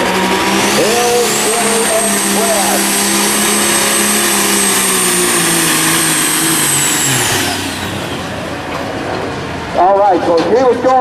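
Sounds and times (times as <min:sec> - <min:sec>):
diesel engine at full throttle: 0:00.0 - 0:10.7.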